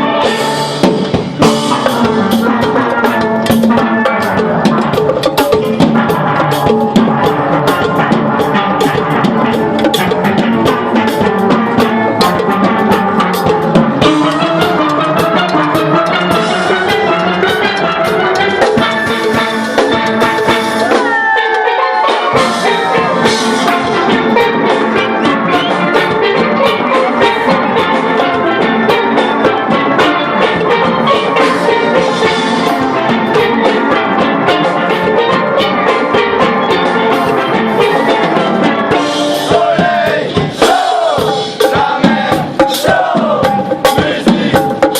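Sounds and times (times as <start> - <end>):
drum beat: 0.0 - 44.9
steel band playing: 0.0 - 44.9.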